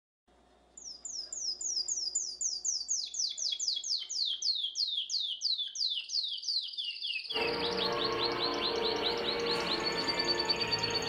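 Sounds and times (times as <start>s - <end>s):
small bird chirping: 0.7s - 11.0s.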